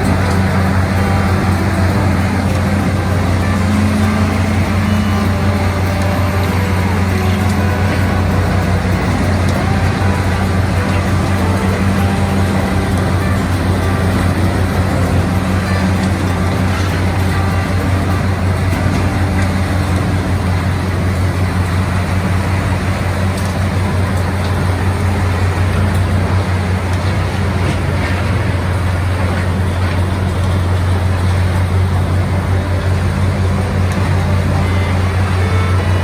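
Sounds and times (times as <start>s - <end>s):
heavy machinery droning: 0.0s - 36.0s.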